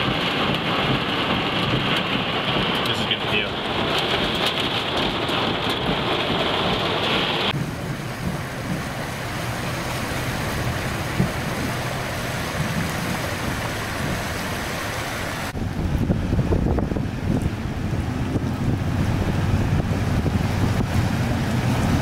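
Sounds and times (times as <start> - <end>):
heavy rain on windshield: 0.0 - 22.0.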